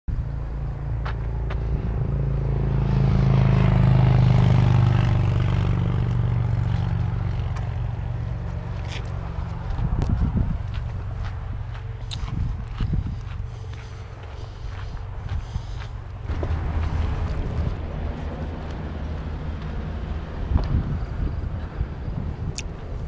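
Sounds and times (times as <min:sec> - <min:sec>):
vehicle engine droning: 0:00.1 - 0:23.0.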